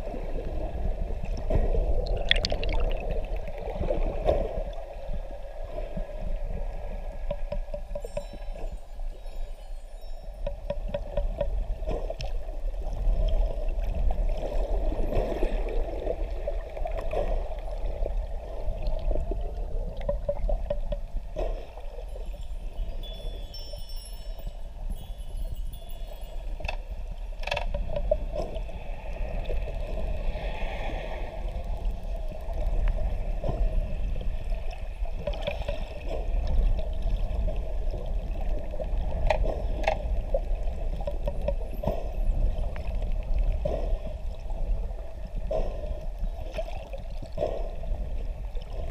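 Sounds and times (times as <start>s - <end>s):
underwater water rush: 0.0s - 8.0s, 11.4s - 23.0s, 26.4s - 48.9s.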